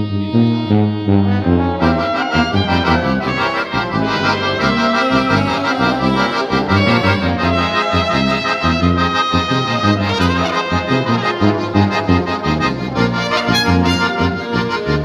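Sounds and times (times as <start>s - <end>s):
brass band with accordion playing: 0.0s - 15.0s.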